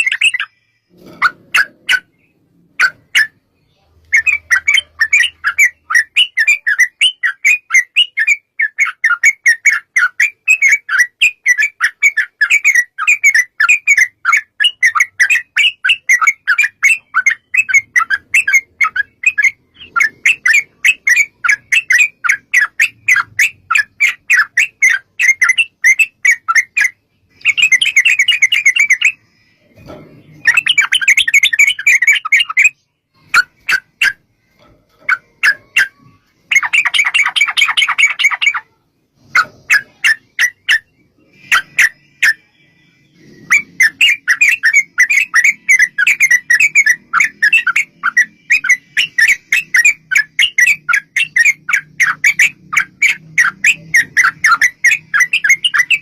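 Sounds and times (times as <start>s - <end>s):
bird chattering: 0.0s - 56.0s.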